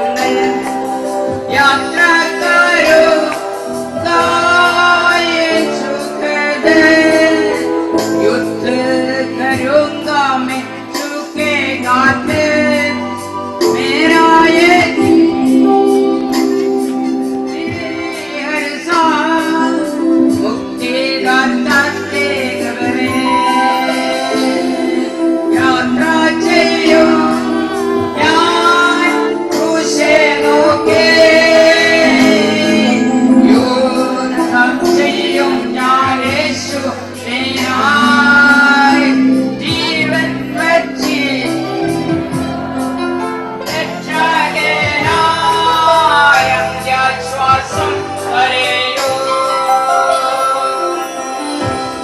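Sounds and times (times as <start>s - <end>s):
woman singing: 0.0s - 42.6s
instrumental backing with bass: 0.0s - 52.0s.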